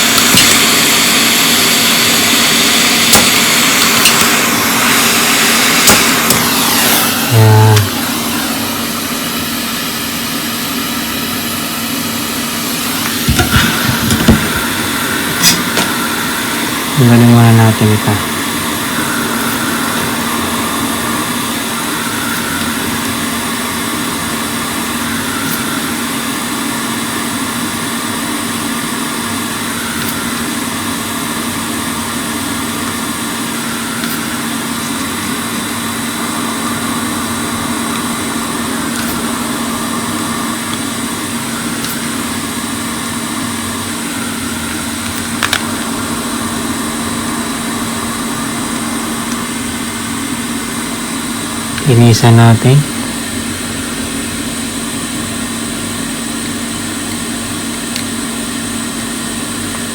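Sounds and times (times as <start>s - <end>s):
hot air blower hissing: 0.0s - 59.9s.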